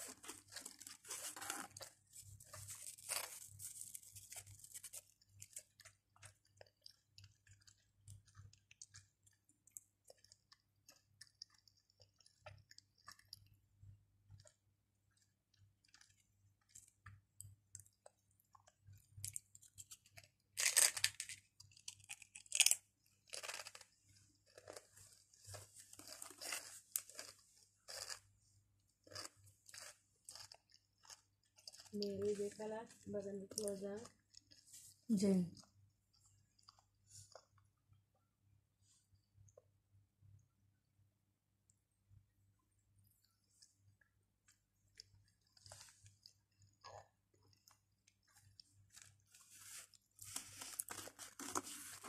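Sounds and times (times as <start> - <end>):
crisps crunched and chewed: 0.0 - 34.9, 35.6 - 37.6, 44.8 - 52.0.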